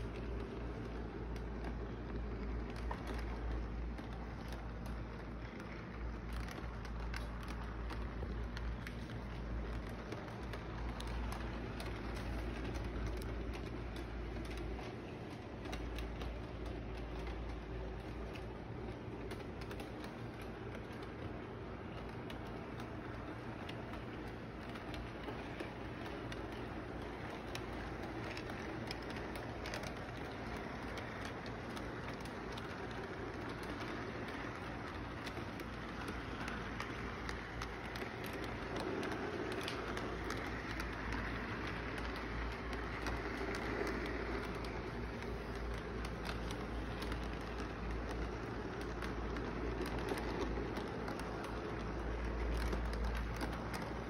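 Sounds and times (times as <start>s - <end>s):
model train rumbling on track: 0.0s - 54.0s
wheels clicking on rails: 0.0s - 54.0s.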